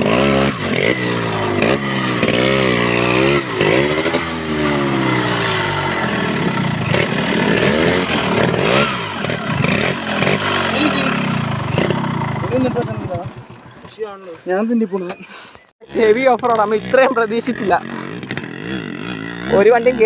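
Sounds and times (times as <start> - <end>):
motorcycle engine revving hard: 0.0 - 14.0, 15.8 - 20.0.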